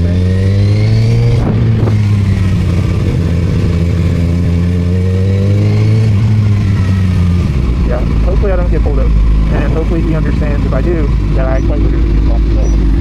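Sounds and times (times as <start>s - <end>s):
wind rumble on microphone: 0.0s - 4.7s, 5.3s - 13.0s
motorcycle engine accelerating: 0.0s - 13.0s.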